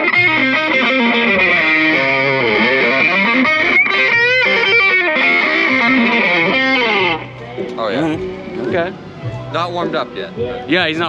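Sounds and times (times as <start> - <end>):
distorted electric guitar lead: 0.0 - 9.6.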